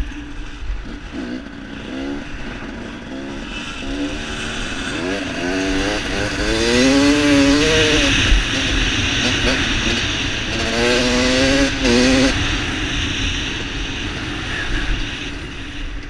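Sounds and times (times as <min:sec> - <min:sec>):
dirt bike engine accelerating: 0:00.0 - 0:16.0.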